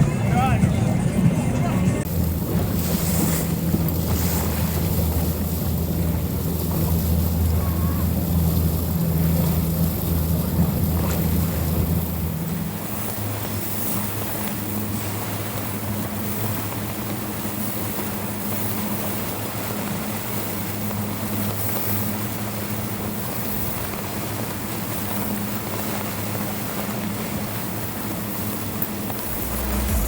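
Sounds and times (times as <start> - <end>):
motorboat engine humming: 0.0 - 30.0
water wash: 0.0 - 30.0.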